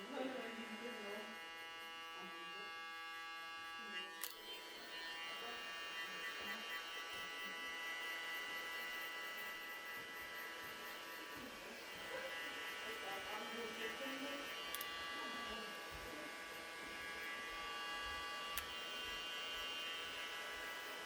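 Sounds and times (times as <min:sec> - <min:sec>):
electric hair clippers buzzing: 0:00.0 - 0:21.0.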